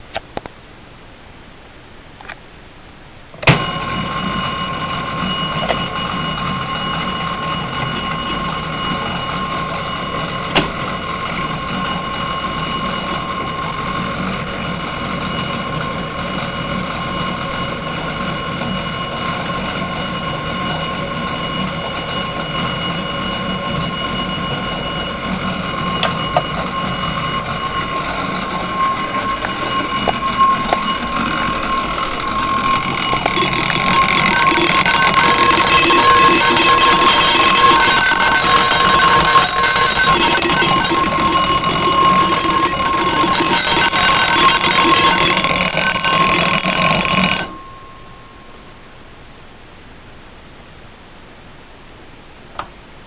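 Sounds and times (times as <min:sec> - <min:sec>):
fire alarm ringing: 0:03.4 - 0:48.8.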